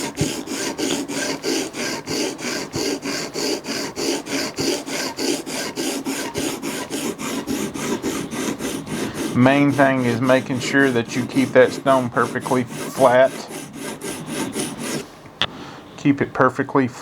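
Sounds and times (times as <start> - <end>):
sharpening stone rasping on knife: 0.0 - 15.0.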